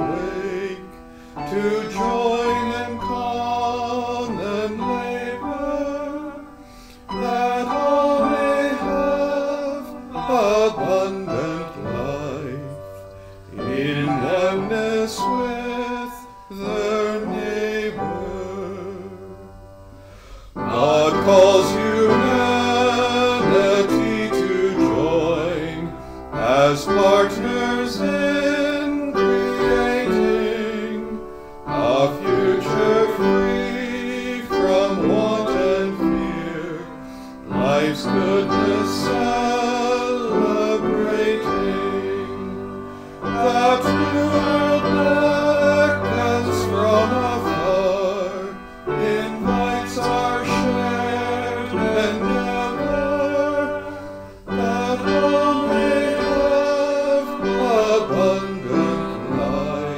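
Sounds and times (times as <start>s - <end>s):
person singing a hymn: 0.0s - 59.9s
piano accompaniment: 0.0s - 59.9s.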